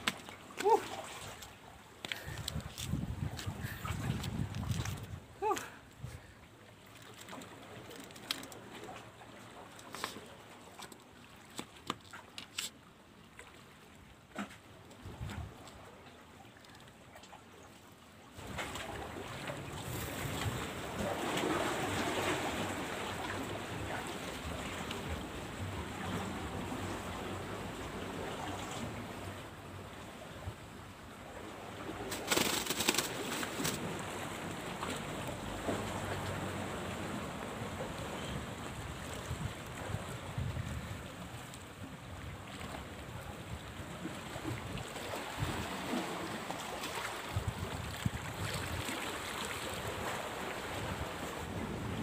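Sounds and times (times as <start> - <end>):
faint sea wash: 0.0 - 52.0.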